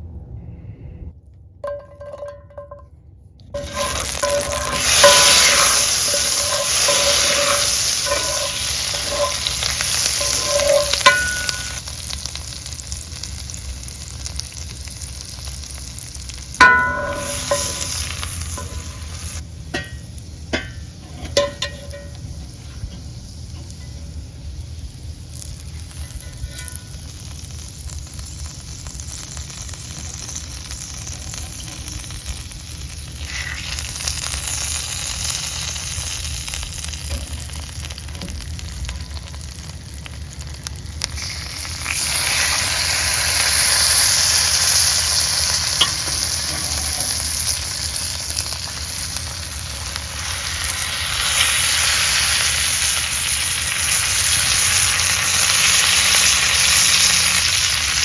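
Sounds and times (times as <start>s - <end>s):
food sizzling in a pan: 3.6s - 58.0s.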